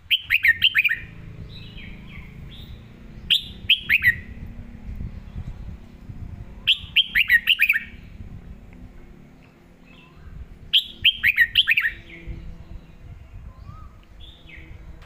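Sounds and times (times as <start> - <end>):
bird song bursts: 0.0 - 8.2, 9.4 - 15.0.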